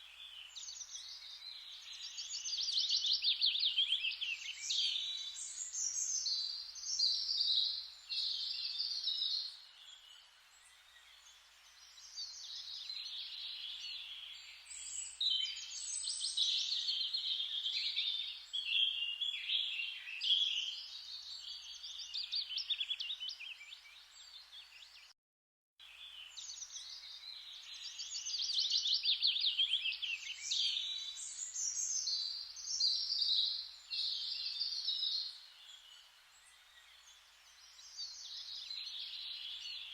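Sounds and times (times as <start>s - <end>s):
songbirds chirping and trilling: 0.0s - 25.1s, 25.8s - 39.9s.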